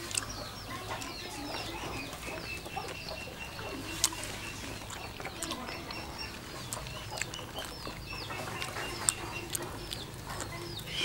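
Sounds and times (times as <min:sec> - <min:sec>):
chickens and birds chirping: 0:00.0 - 0:11.0.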